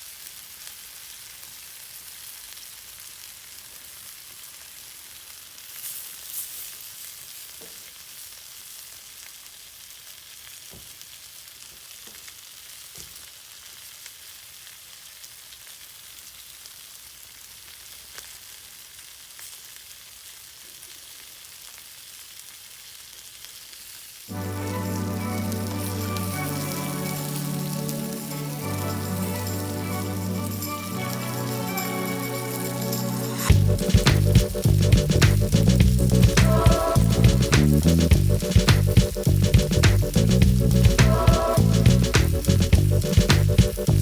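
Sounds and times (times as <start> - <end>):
food sizzling on griddle: 0.0 - 44.0.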